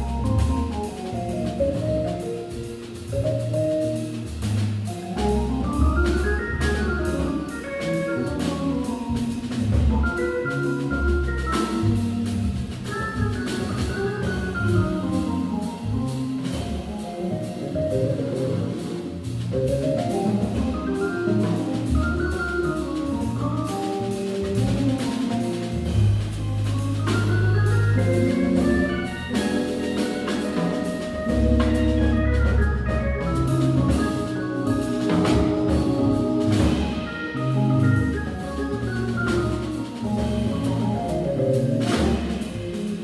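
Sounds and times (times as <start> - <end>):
deep bass notes: 0.0 - 43.0
drum kit with cymbals: 0.0 - 43.0
organ playing melodic lines: 0.0 - 43.0.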